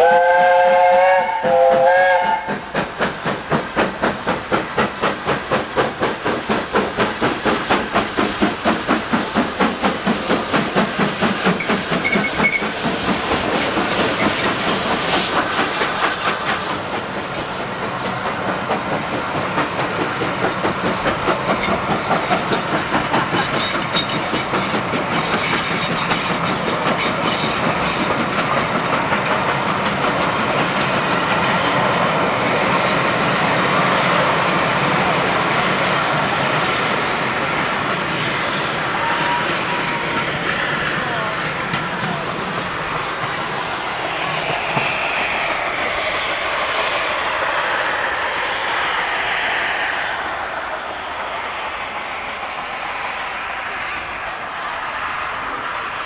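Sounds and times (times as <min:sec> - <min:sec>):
steam locomotive chuffing: 0:00.0 - 0:56.0
train wheels clicking over rail joints: 0:01.4 - 0:38.5, 0:39.9 - 0:49.4.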